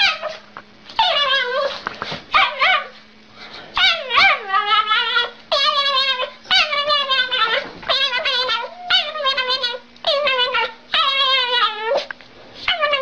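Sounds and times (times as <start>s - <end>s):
dog whining and yipping: 1.0s - 3.0s, 3.8s - 13.0s.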